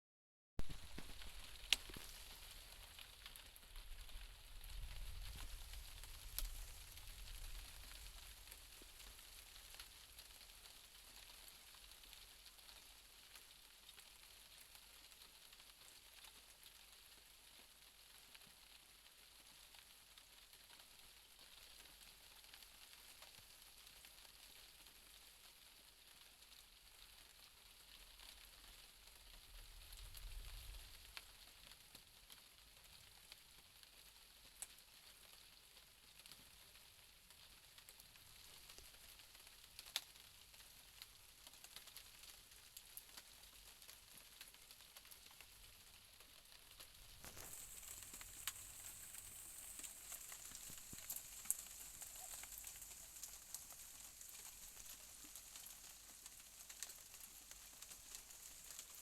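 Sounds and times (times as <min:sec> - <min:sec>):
rain hiss: 0:00.6 - 0:16.8, 0:26.1 - 0:59.0.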